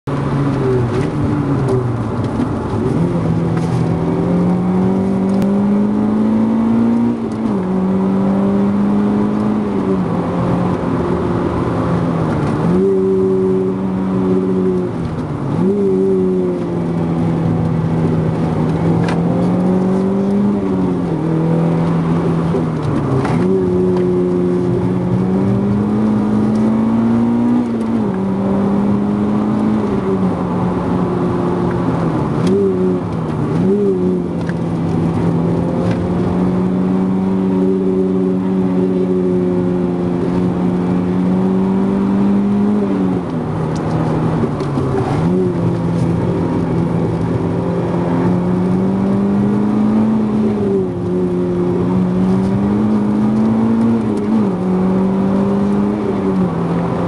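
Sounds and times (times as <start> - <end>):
road and wind noise: 0.0 - 57.0
car engine revving hard: 0.1 - 57.0.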